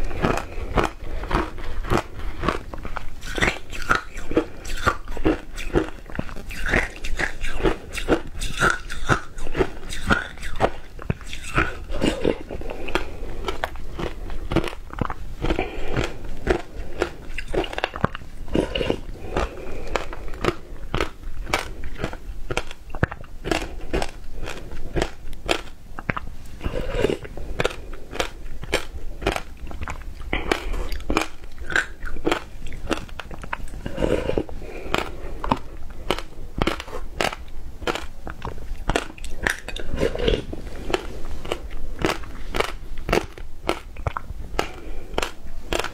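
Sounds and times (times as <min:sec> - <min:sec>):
crunching shaved ice: 0:00.0 - 0:45.9.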